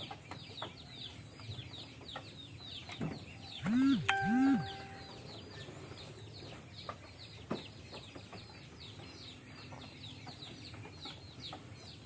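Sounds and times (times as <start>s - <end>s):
birds peeping: 0.0s - 12.0s.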